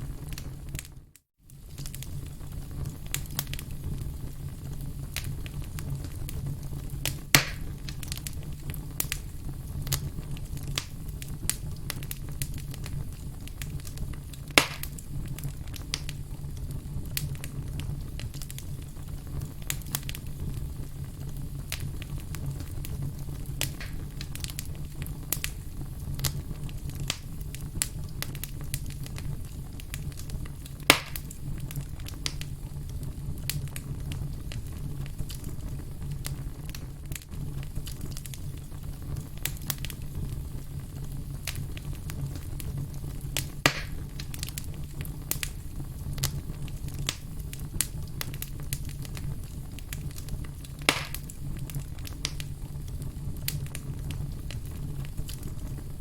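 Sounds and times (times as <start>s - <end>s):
loud fire pops: 0.0s - 56.0s
low rumble of fire: 0.0s - 56.0s
wood fire crackling: 0.0s - 56.0s.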